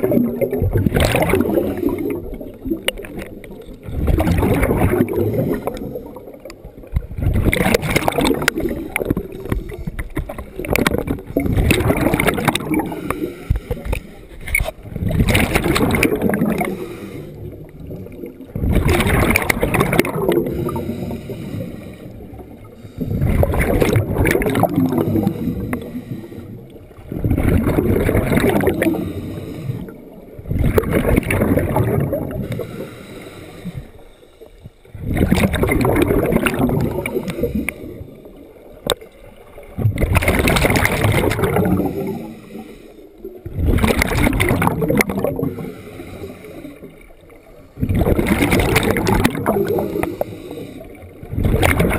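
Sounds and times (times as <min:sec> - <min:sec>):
underwater exhaled bubbles: 0:00.0 - 0:51.9.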